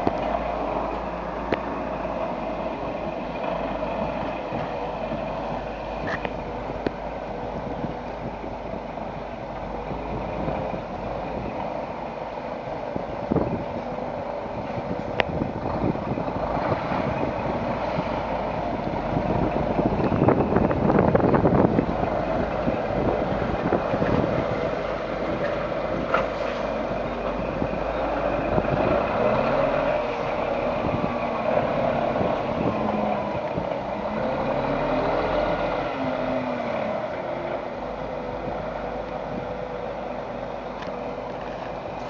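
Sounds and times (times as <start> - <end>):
truck diesel engine idling: 0.0 - 42.0.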